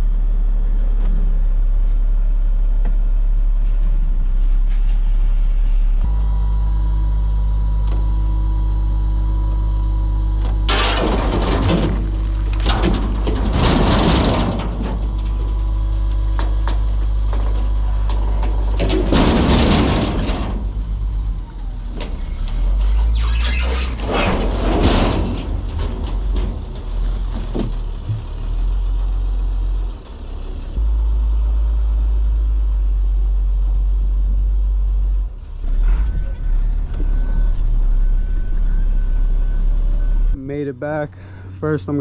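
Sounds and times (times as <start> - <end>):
truck engine rumbling: 0.0 - 7.6, 8.5 - 42.0.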